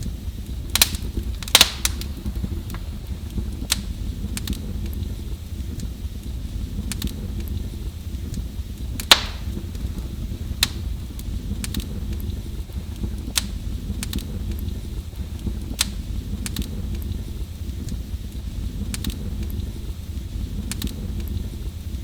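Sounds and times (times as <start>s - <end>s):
fire crackling pops: 0.0s - 22.0s
fireplace fire rumbling: 0.0s - 22.0s.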